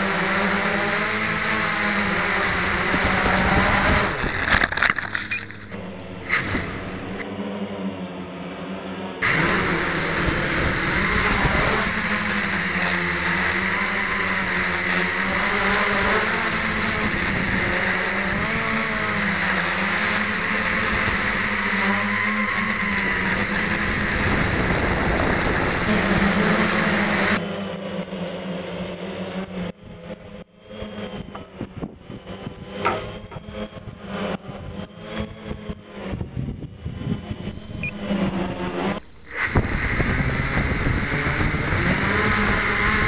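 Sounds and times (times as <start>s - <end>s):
drone propellers buzzing: 0.0s - 43.0s.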